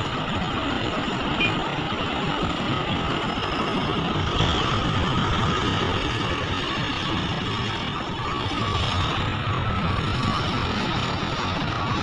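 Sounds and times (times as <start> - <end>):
excavator diesel engines working: 0.0 - 12.0.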